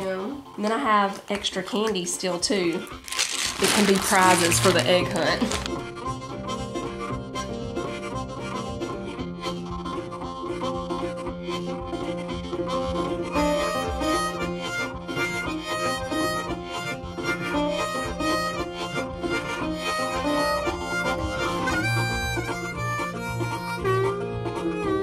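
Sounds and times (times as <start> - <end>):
upbeat country music with harmonica: 2.6 - 25.0.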